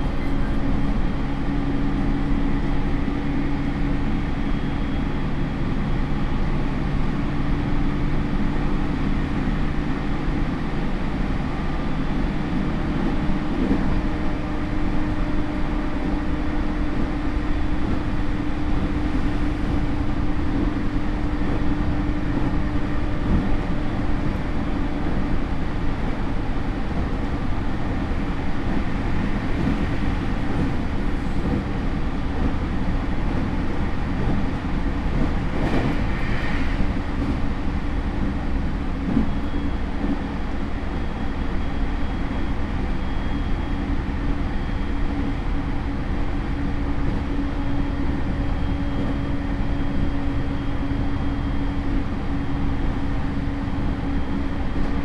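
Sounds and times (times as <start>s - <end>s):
train wheel and rail noise: 0.0s - 55.0s.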